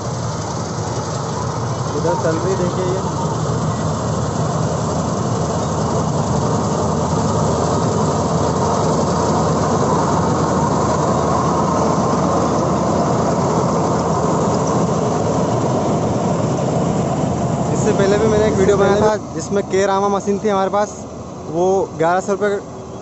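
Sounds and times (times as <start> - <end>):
harvester engine hum: 0.0 - 23.0.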